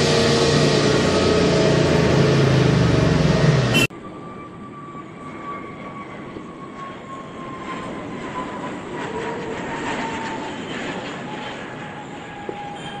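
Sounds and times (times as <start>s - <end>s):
jet engines passing: 0.0s - 13.0s.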